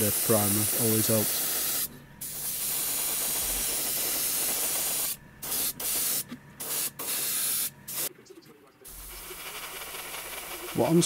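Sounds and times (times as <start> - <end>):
airbrush spraying hiss: 0.0 - 8.1, 8.9 - 11.0.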